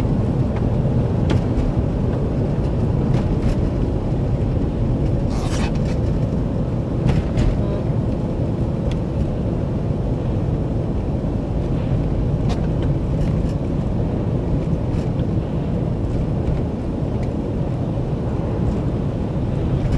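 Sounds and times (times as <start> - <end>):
vehicle driving on snowy road: 0.0 - 19.9.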